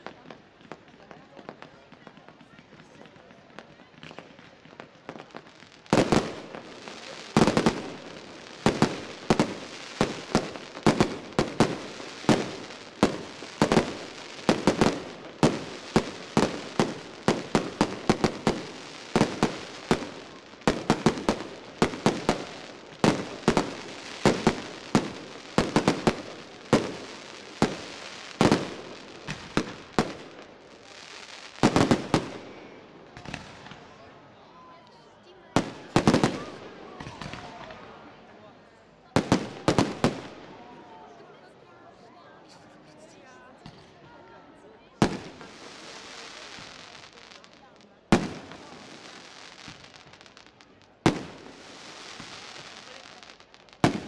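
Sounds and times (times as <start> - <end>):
firework crackling: 0.0 - 34.1, 35.6 - 38.1, 39.2 - 40.8, 45.0 - 54.0.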